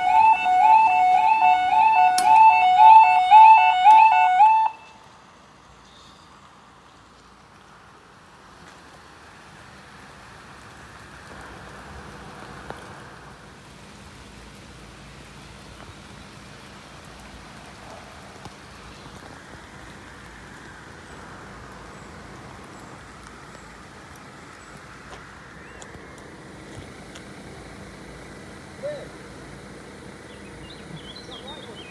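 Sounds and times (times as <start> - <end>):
rain falling on wet road: 0.0 - 31.9.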